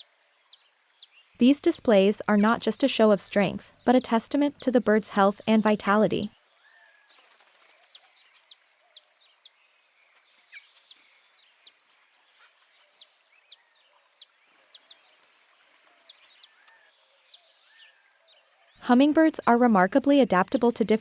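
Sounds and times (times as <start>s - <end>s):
soft bird chirps: 0.0s - 18.8s.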